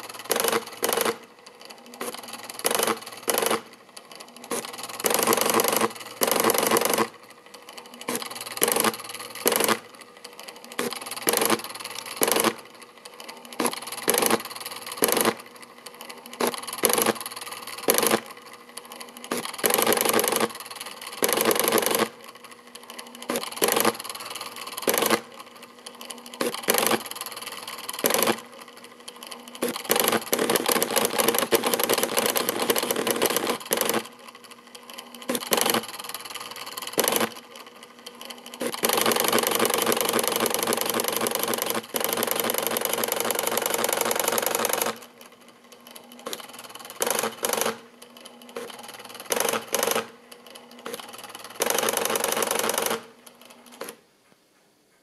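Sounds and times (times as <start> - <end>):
plotter stepper motors buzzing: 0.0 - 54.0.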